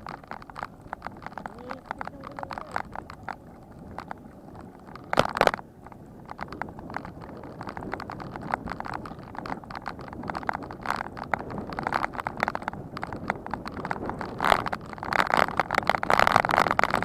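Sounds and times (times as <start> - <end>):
bicycle rattling and clicking: 0.0 - 17.0
low road noise: 0.0 - 17.0.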